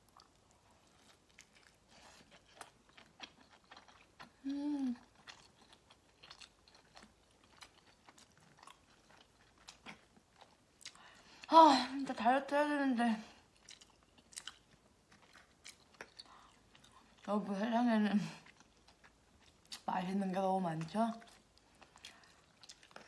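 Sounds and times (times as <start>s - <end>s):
person chewing food: 0.0s - 11.5s, 13.4s - 17.3s, 18.3s - 19.9s, 21.2s - 23.0s.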